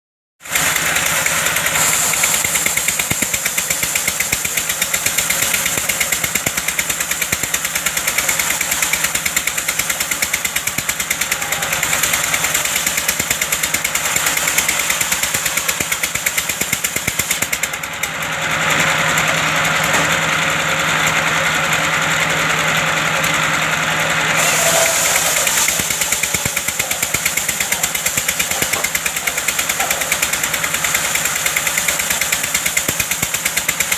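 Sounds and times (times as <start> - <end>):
wood-cutting machine engine running: 0.4 - 33.9.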